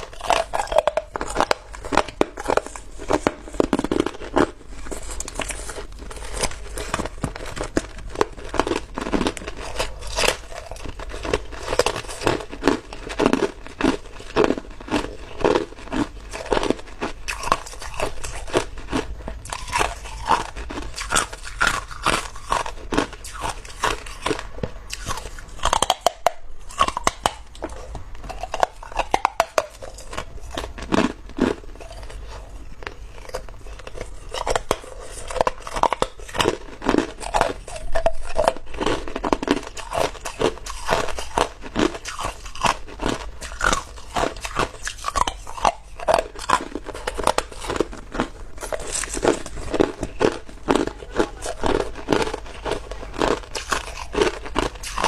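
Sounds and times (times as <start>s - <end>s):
person crunching ice: 0.0s - 55.0s.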